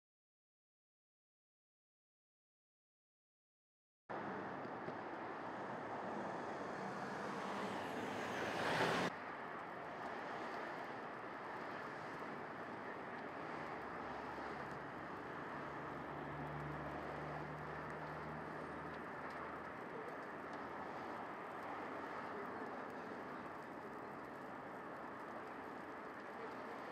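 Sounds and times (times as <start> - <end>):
fire flames rushing: 4.2 - 26.9.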